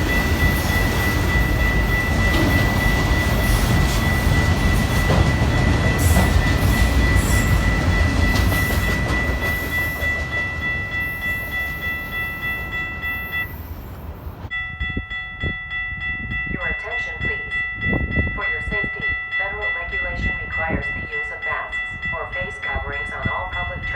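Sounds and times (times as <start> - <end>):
crossing warning bells ringing: 0.0 - 23.9
train passing with low rumble: 0.0 - 23.9.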